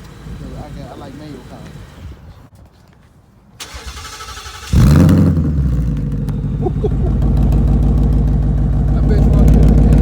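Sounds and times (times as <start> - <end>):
car engine starting and idling: 0.0 - 2.2, 3.6 - 10.0.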